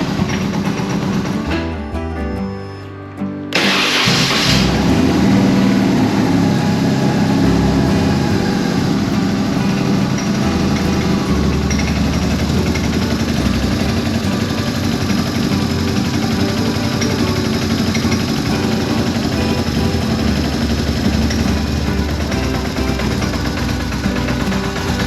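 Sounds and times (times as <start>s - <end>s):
motorcycle engine idling roughly: 0.0s - 1.8s, 3.6s - 25.0s.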